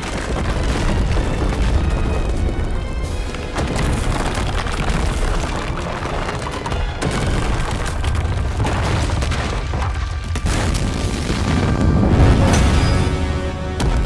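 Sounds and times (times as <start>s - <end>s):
booming impacts: 0.0s - 14.0s
dramatic music: 0.0s - 14.0s
heavy rumbling: 0.0s - 14.0s.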